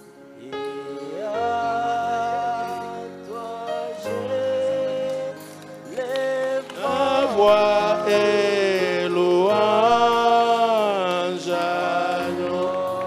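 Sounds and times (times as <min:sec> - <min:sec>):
background music: 0:00.0 - 0:13.0
person singing worship song: 0:00.0 - 0:13.0.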